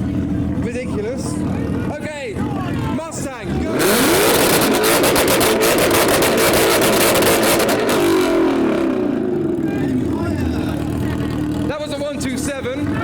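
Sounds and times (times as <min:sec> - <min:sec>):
car engine revving with crackle: 0:00.0 - 0:13.0.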